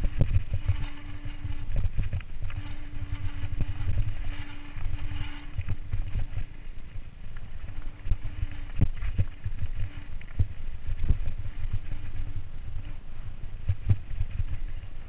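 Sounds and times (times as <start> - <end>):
faint steady hum: 0.0 - 15.0
low rumble: 0.0 - 15.0.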